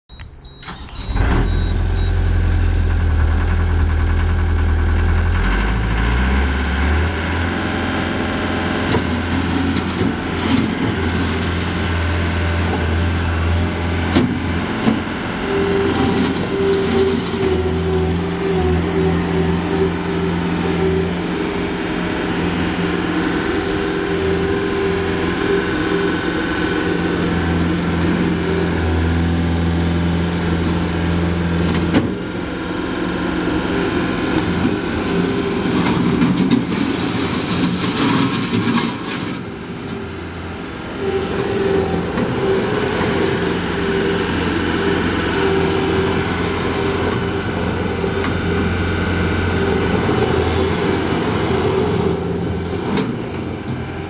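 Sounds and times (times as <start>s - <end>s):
diesel engine running: 0.1s - 54.0s
loader driving on gravel: 0.2s - 54.0s.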